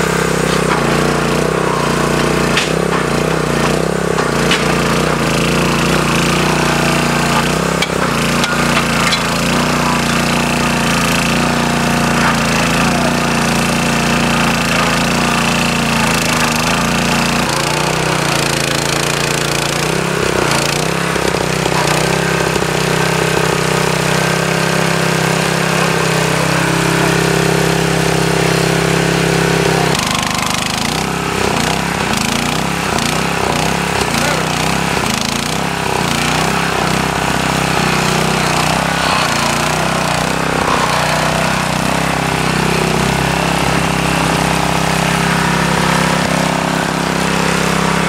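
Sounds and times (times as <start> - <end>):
rough grinding or rattling: 0.0 - 48.0
track machine engine running: 0.0 - 48.0.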